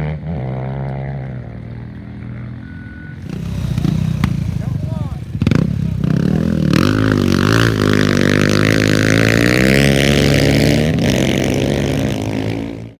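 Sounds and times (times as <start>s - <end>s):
off-road bike engine running hard: 0.0s - 13.0s.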